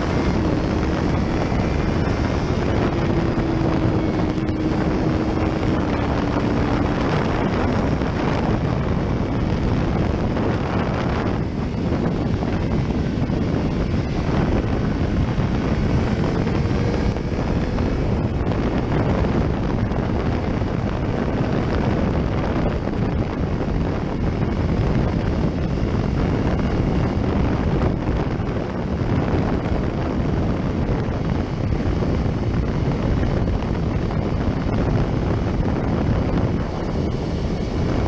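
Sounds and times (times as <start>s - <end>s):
motorcycle running: 0.0s - 38.0s
road noise: 0.0s - 38.0s
wind buffeting microphone: 0.0s - 38.0s.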